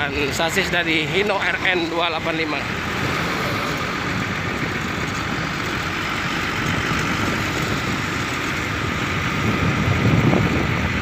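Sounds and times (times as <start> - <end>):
diesel coach engine running: 0.0 - 11.0
road traffic: 0.0 - 11.0.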